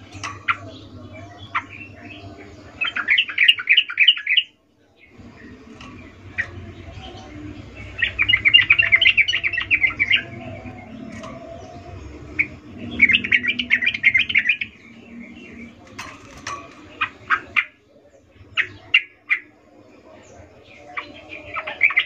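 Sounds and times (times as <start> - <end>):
bird chattering song: 0.0 - 22.0.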